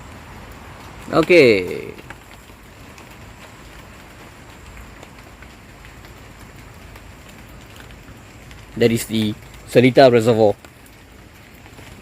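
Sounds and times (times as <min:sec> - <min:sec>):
light drizzle falling: 0:00.0 - 0:12.0.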